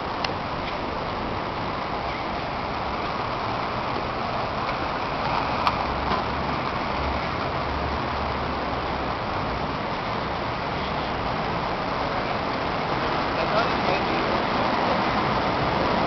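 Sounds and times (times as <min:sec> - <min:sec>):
low engine rumble: 0:00.0 - 0:16.0
street traffic noise: 0:00.0 - 0:16.0.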